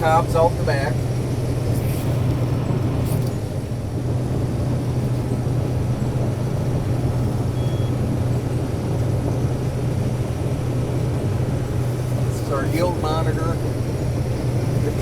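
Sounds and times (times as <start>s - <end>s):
combine engine hum: 0.0s - 15.0s.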